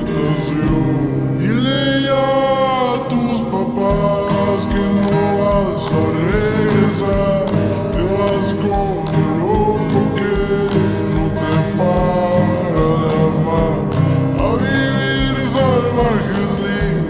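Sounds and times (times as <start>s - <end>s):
slowed reverb-heavy folk song: 0.0s - 17.0s.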